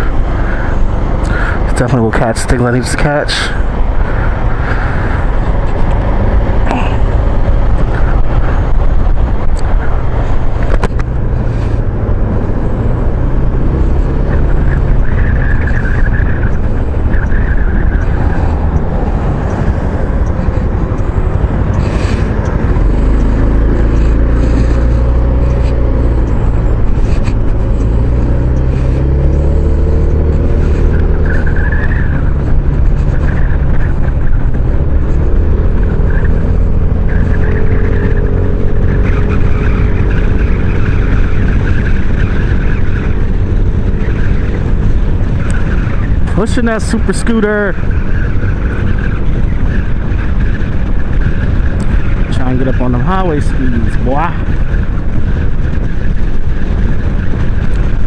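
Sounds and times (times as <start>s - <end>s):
wind buffeting camera: 0.0s - 58.0s.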